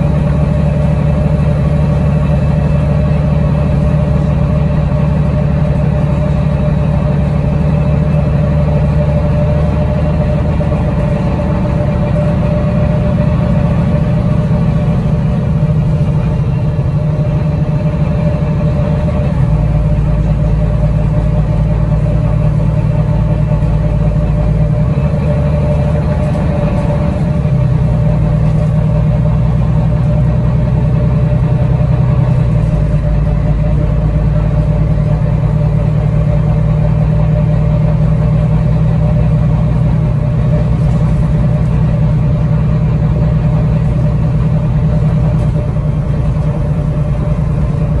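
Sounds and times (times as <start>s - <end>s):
bus engine drone: 0.0s - 48.0s
faint drivetrain whine: 0.0s - 48.0s.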